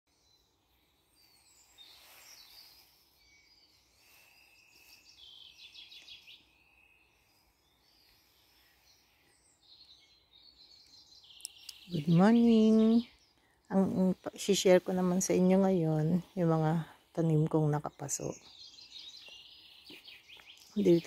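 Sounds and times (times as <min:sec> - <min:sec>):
faint birdsong: 0:00.1 - 0:21.0.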